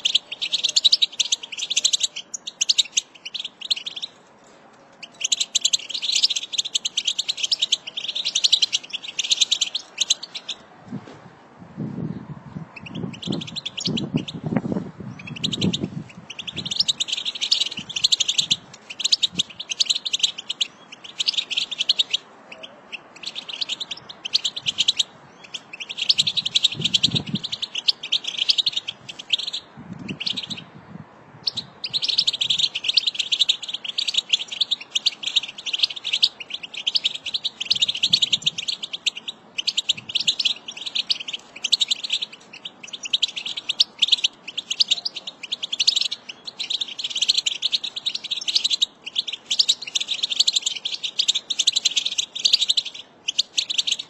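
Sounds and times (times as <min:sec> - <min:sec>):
goldfinch twittering song: 0:00.0 - 0:04.2, 0:05.0 - 0:10.6, 0:12.7 - 0:14.4, 0:15.1 - 0:30.7, 0:31.4 - 0:54.0.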